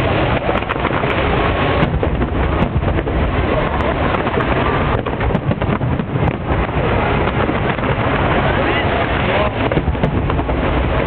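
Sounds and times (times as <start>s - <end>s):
crowd chatter: 0.0s - 11.0s
wind rumble on microphone: 0.0s - 11.0s.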